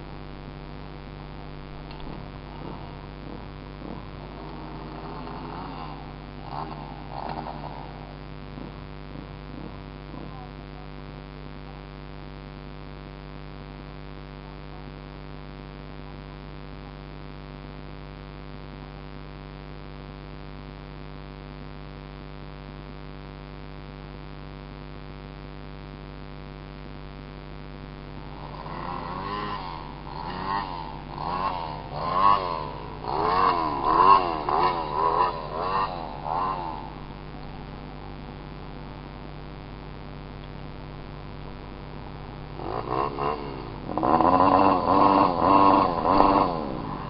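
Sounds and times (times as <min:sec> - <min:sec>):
dirt bike engine idling: 0:00.0 - 0:20.9, 0:25.8 - 0:47.0.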